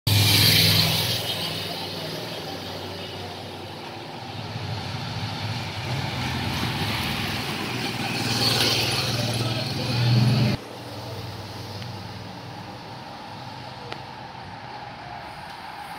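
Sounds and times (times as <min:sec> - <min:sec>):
vehicle passing close: 0:00.1 - 0:13.7.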